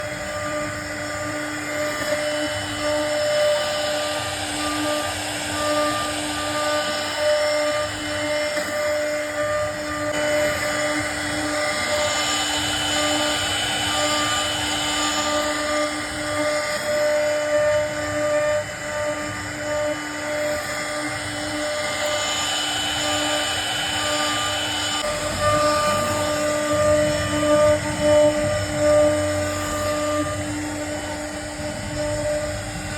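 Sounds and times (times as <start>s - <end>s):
bit cutting wood: 0.0s - 32.9s
router spindle high whine: 0.0s - 32.9s.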